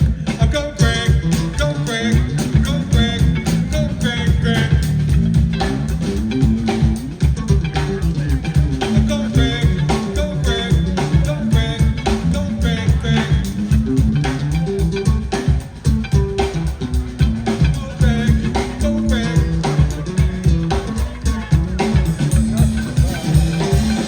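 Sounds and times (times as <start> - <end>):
drum kit playing: 0.0 - 24.0
electric bass walking line: 0.0 - 24.0
guitar phrases: 0.0 - 24.0.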